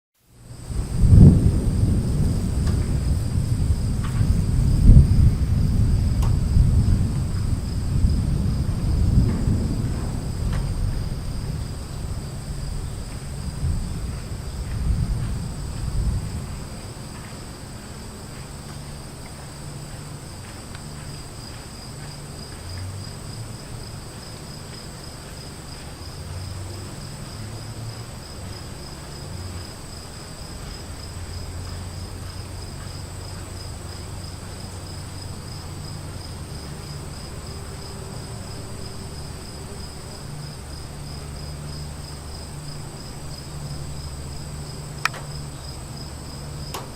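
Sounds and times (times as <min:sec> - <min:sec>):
insects chirring: 0:00.2 - 0:46.9
thunder rumbling: 0:00.4 - 0:46.9.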